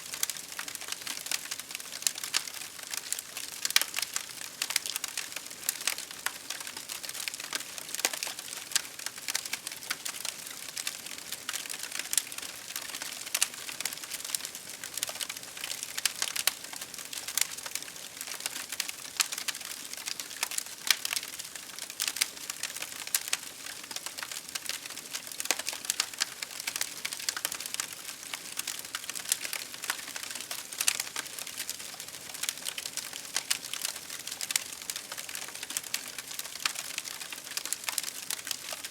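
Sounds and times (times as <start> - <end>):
campfire crackling: 0.1 - 38.9.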